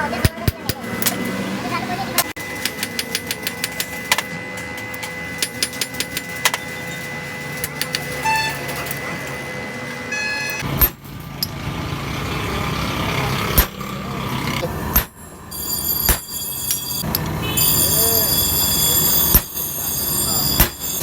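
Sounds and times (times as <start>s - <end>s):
mechanical running noise: 0.0s - 21.0s.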